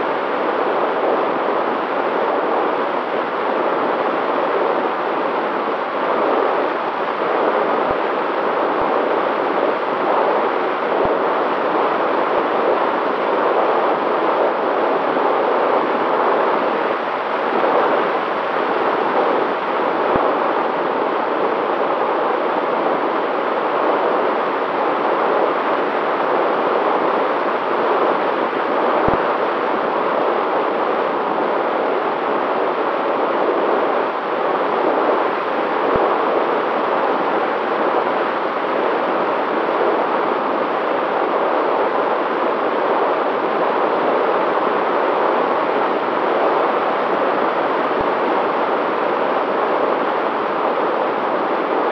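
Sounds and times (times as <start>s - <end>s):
faint steady whine: 0.0s - 51.9s.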